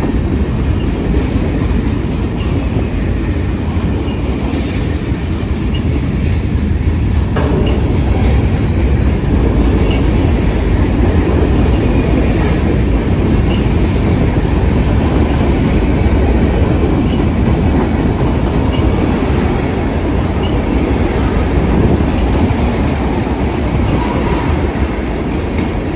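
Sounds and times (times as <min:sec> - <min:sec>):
freight train rumbling on rails: 0:00.0 - 0:25.9.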